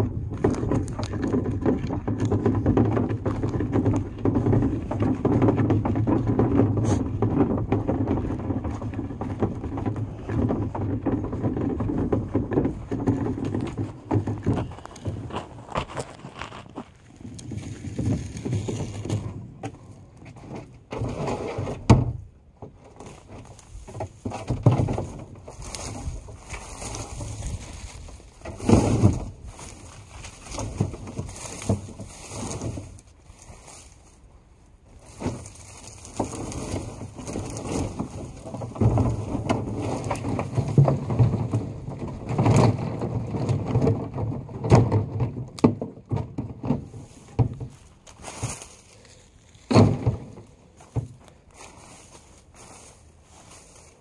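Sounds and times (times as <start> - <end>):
sticks knocking: 0.0 - 20.4, 22.6 - 34.0, 34.9 - 54.0
sticks and needles rustling: 0.4 - 21.1, 22.9 - 44.3, 46.6 - 54.0.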